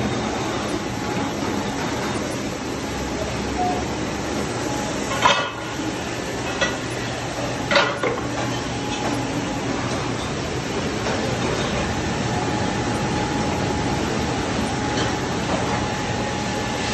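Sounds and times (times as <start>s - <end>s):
machinery running: 0.0s - 16.9s.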